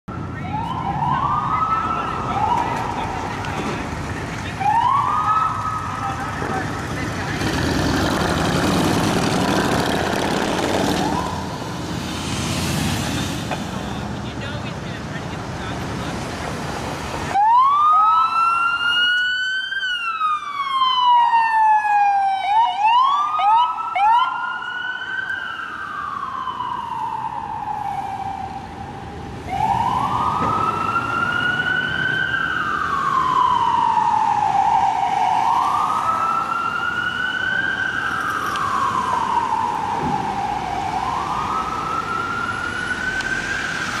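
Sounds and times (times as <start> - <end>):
police siren wailing: 0.1 - 12.0, 17.3 - 44.0.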